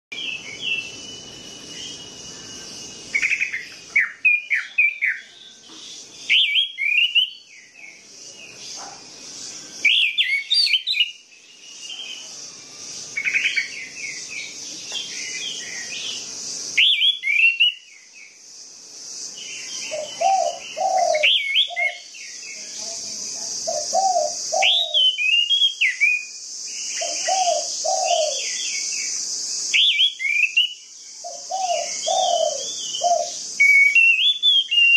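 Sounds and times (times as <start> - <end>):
bird singing whistled notes: 0.1 - 18.4, 19.1 - 34.9
steady high-pitched hiss: 0.1 - 34.9.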